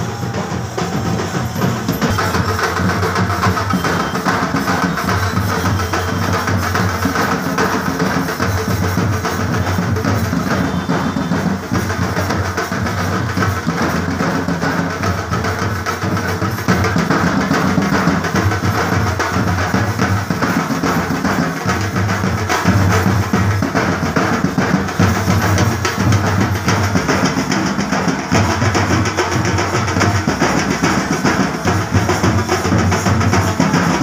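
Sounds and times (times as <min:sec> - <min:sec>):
large drums beaten with sticks: 0:00.0 - 0:34.0.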